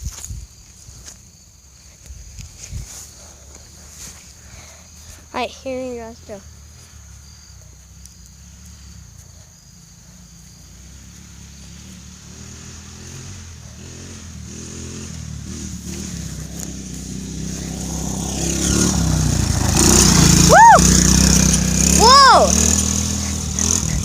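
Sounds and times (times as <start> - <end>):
off-road vehicle engine approaching: 1.7 - 24.0.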